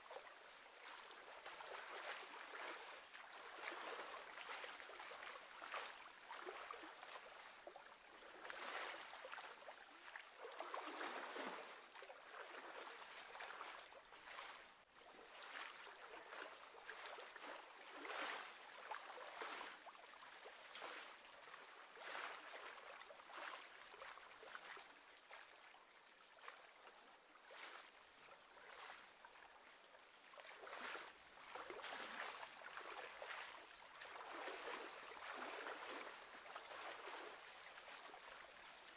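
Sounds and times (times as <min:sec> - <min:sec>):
faint lapping of small waves: 0:00.0 - 0:38.9.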